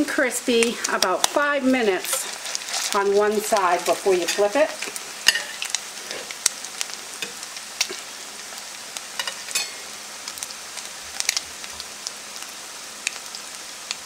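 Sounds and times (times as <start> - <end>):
oil popping and crackling: 0.0 - 14.0
patties sizzling in oil: 0.0 - 14.0.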